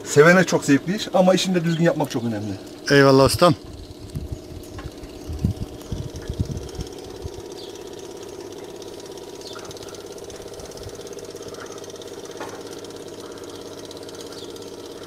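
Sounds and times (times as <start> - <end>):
electric fuel pump buzzing: 0.0 - 15.0.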